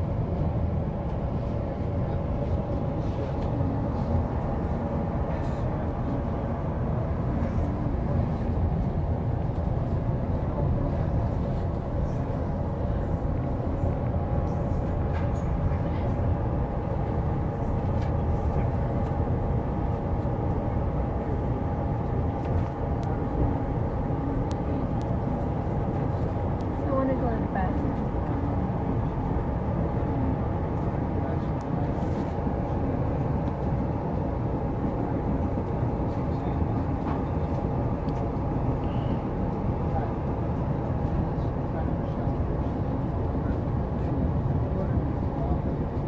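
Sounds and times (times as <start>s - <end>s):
faint steady whine: 0.0s - 46.0s
train rumble from inside: 0.0s - 46.0s.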